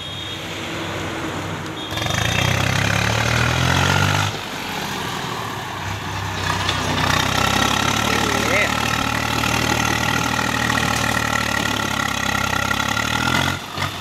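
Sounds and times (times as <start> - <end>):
tractor diesel engine revving: 0.6 - 14.0.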